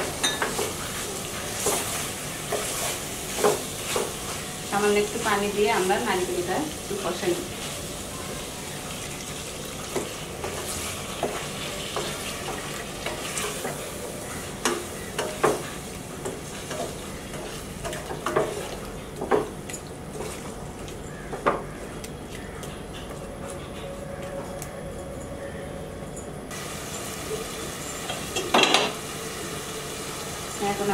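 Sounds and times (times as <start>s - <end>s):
frying sizzle: 0.0s - 22.0s, 26.5s - 30.9s.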